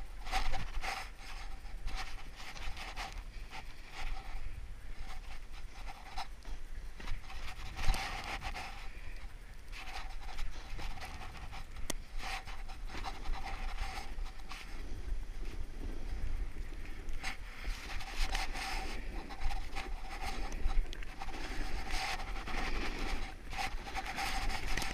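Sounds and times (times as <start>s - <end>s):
scraping across snow: 0.2s - 24.9s.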